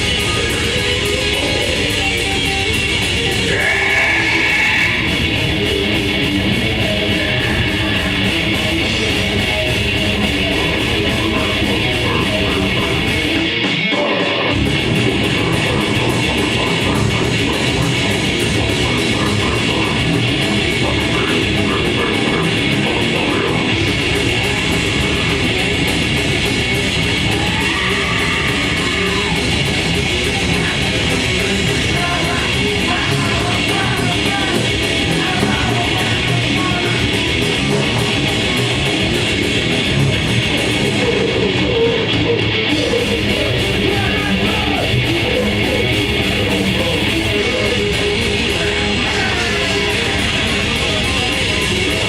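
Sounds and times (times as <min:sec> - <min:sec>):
distorted electric guitars: 0:00.0 - 0:52.0
fast drums: 0:00.0 - 0:52.0.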